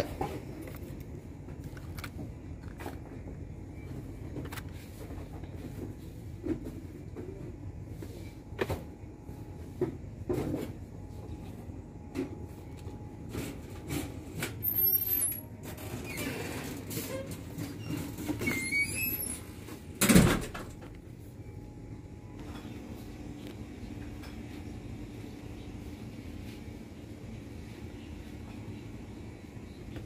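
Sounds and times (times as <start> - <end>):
low steady hum: 0.0 - 14.5, 19.6 - 30.0.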